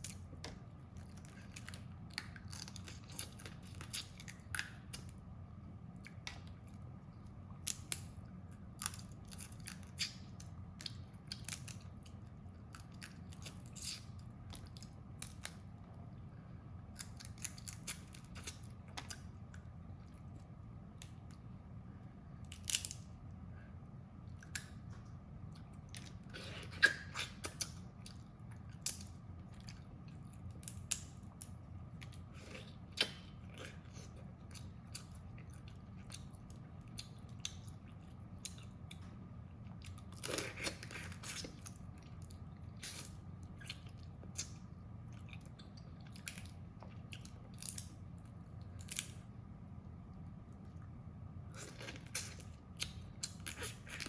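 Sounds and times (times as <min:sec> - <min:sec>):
crab shells cracking and chewing: 0:00.0 - 0:05.2, 0:06.0 - 0:16.0, 0:16.9 - 0:21.5, 0:22.4 - 0:23.1, 0:24.4 - 0:49.2, 0:51.5 - 0:54.0.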